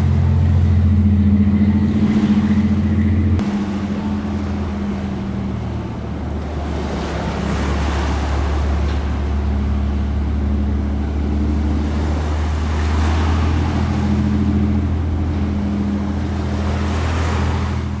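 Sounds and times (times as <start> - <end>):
boat engines humming: 0.0 - 18.0
water rushing: 0.0 - 18.0
wind: 0.0 - 18.0.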